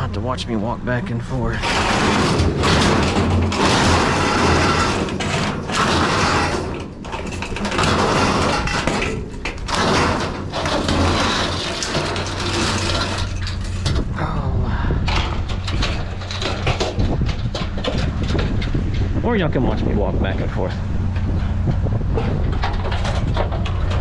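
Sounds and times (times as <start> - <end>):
metal clattering and scraping: 0.0 - 14.2, 15.0 - 24.0.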